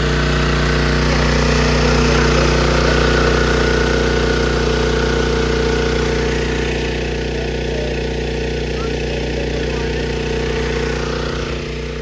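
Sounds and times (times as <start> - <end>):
engine-driven water pump running: 0.0 - 12.0.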